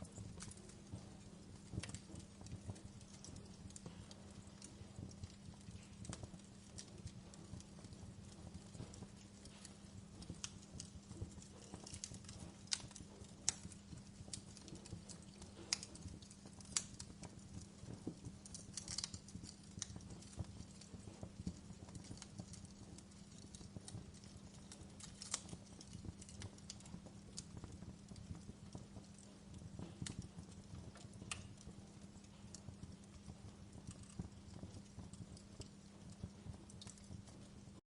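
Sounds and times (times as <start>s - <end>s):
low steady hum: 0.0s - 37.8s
wood fire crackling and popping: 0.0s - 37.8s.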